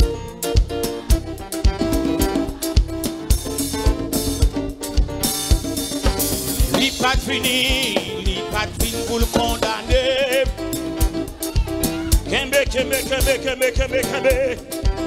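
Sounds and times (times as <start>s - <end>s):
drum kit steady beat: 0.0s - 15.0s
keyboard synthesizer chords: 0.0s - 15.0s.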